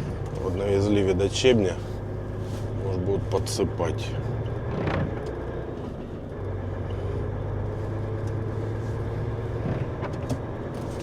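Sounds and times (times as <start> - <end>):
diesel engine drone in cab: 0.0 - 11.0.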